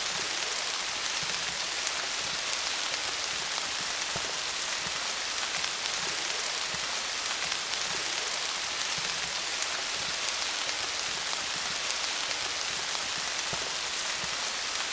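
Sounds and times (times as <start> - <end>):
rain falling on leaves: 0.0 - 14.9.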